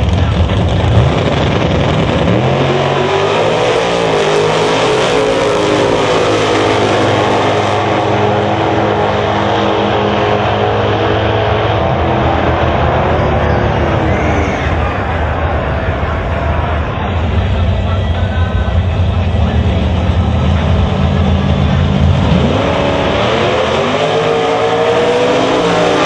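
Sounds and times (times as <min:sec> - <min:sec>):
drag racing engines revving: 0:00.0 - 0:26.0.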